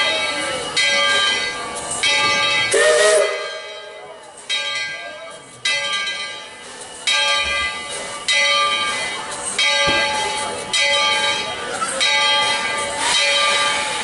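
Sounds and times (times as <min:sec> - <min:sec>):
locomotive bell ringing: 0:00.0 - 0:14.0.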